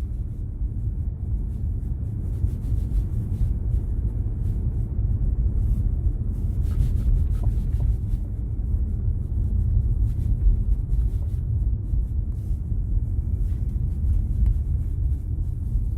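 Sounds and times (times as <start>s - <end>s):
road noise rumble: 0.0s - 15.9s.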